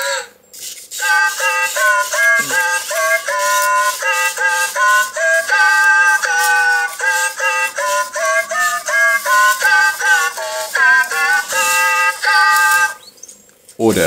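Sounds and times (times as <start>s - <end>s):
toy robot singing synthesized voice: 0.9s - 13.1s.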